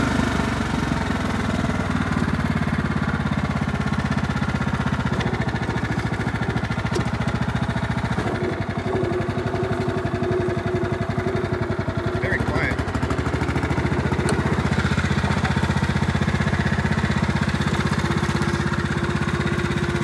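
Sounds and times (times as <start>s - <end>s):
lawn tractor engine running: 0.0s - 20.0s.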